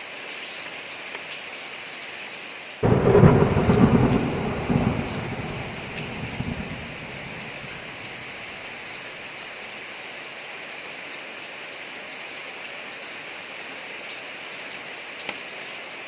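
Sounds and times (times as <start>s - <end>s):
steady rain on a street: 0.0s - 16.0s.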